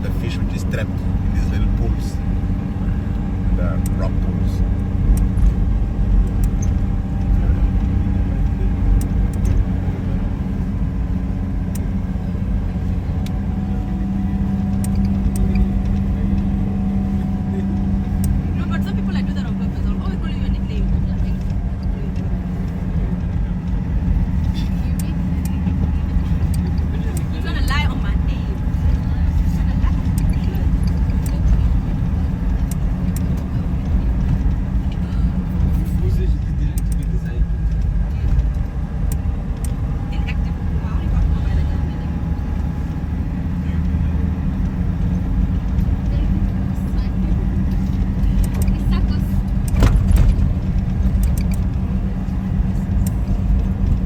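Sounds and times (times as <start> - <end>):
car engine drone: 0.0 - 54.0
road rumble: 0.0 - 54.0.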